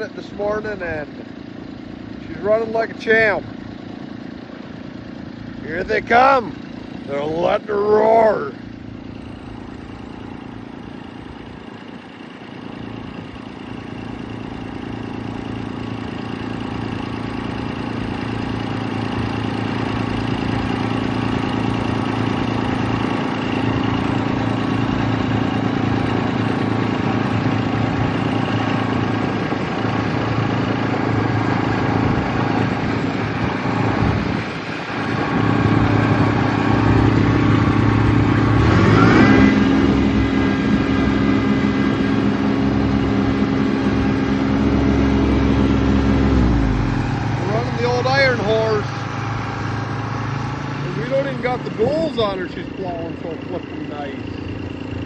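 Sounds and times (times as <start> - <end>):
tractor engine roaring under load: 0.0 - 55.0.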